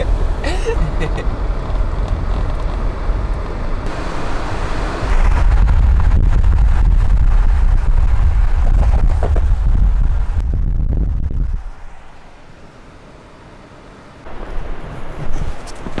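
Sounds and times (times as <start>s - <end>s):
road and wind noise inside car: 0.0s - 16.0s.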